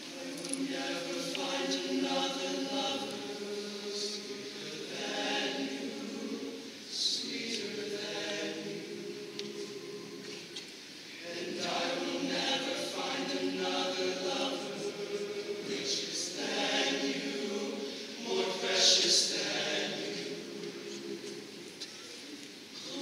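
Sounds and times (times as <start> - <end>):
male choir singing: 0.0 - 21.8, 22.7 - 23.0.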